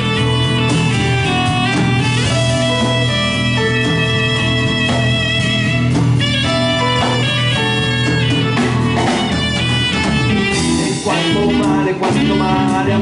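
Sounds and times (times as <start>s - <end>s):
bass guitar: 0.0s - 13.0s
drum kit: 0.0s - 13.0s
electric guitar: 0.0s - 13.0s
saxophone: 0.0s - 13.0s.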